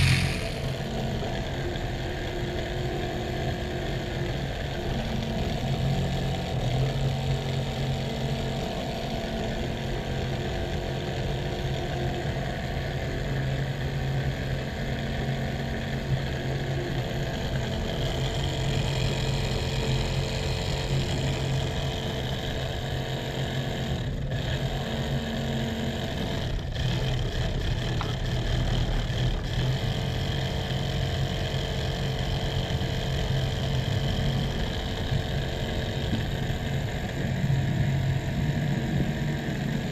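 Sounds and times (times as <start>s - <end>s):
model tractor motor whirring: 0.0s - 39.9s.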